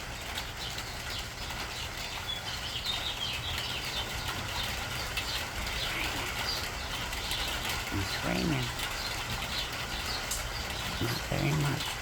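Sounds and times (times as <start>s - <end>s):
light rain patter: 0.0s - 12.0s
songbirds chirping: 0.0s - 12.0s.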